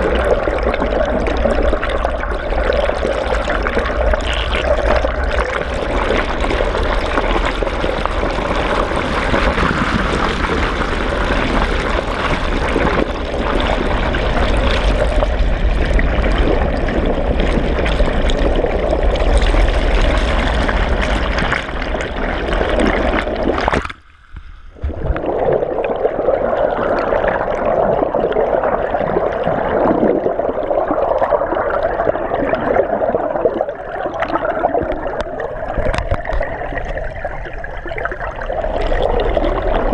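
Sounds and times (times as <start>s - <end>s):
water rushing and gurgling underwater: 0.0s - 39.9s.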